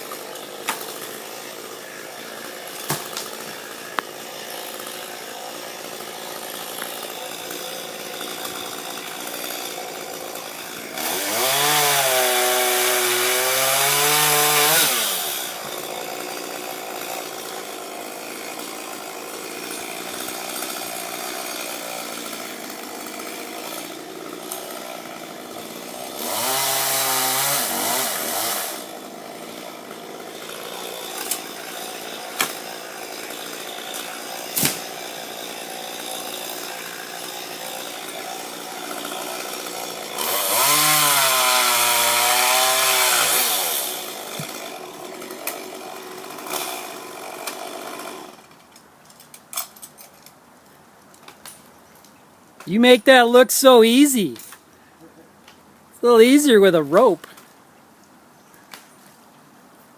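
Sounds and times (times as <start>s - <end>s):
chainsaw idling and revving: 0.0s - 48.6s, 52.7s - 54.5s, 56.0s - 57.3s.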